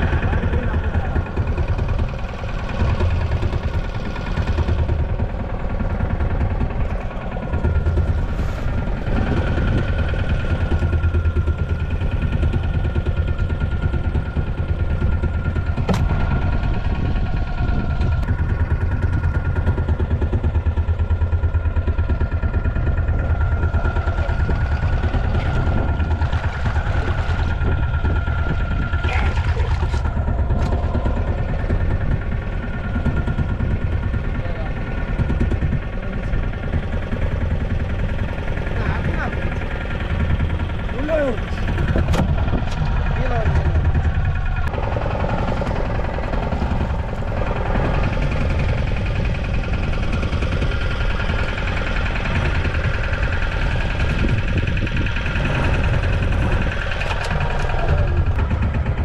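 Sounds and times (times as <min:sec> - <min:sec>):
boat engine throbbing: 0:00.0 - 0:59.0.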